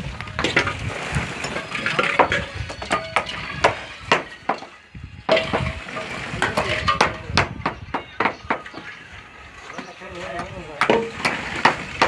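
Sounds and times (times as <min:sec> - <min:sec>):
hand tools knocking and clanking: 0:00.4 - 0:09.0, 0:09.7 - 0:12.0.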